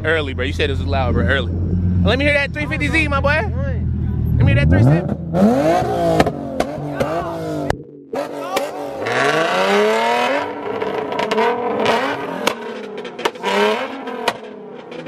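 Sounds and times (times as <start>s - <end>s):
car engine revving: 0.0s - 15.0s
exhaust cracks: 0.0s - 15.0s.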